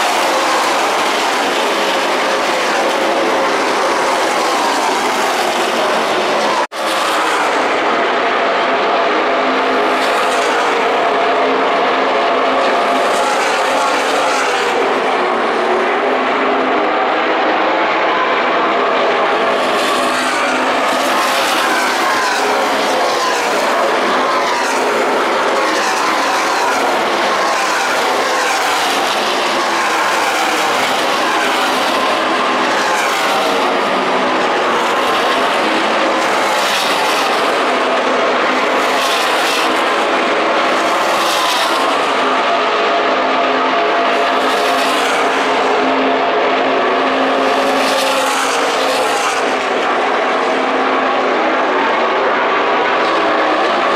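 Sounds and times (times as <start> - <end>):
many race truck engines droning: 0.0 - 53.9.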